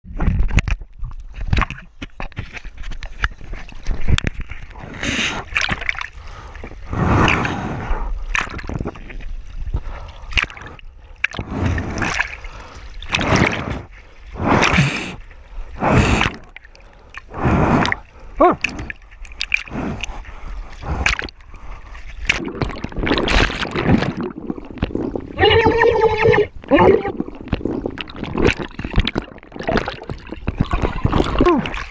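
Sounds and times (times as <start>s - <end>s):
sea water splashing and gurgling: 0.4s - 31.9s
small waves washing: 4.6s - 31.9s.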